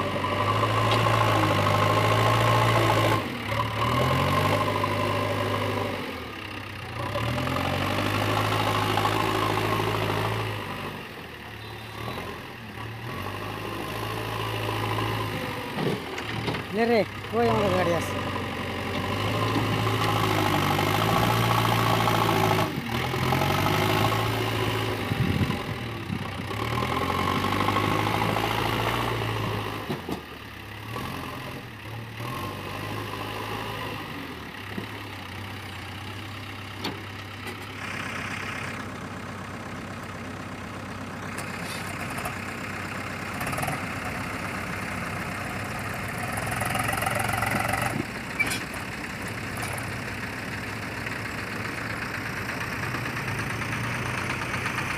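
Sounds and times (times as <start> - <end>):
diesel engine working: 0.0 - 54.9.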